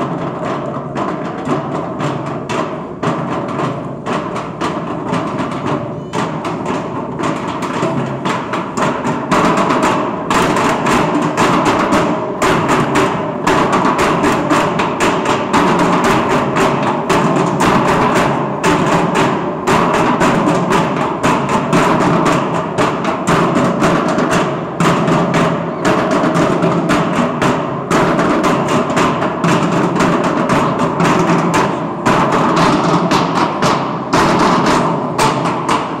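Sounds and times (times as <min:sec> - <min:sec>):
steel drums beaten with sticks: 0:00.0 - 0:36.0.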